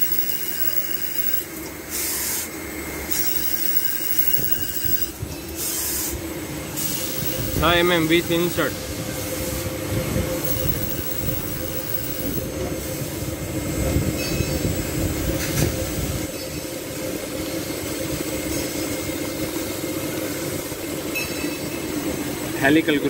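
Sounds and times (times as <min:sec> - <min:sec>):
machinery humming: 0:02.5 - 0:23.0.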